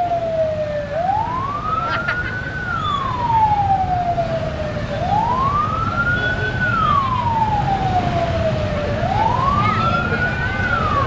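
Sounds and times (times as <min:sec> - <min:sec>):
wailing siren: 0:00.0 - 0:11.0.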